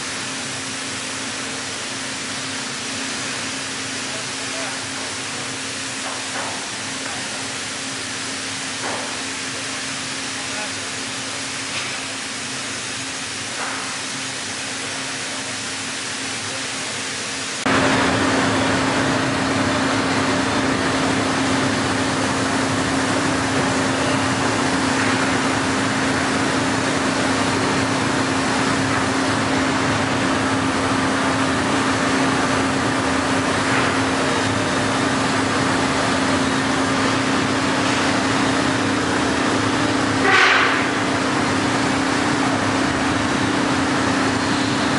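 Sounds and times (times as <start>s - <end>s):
plate rolling machine humming: 0.0s - 44.9s.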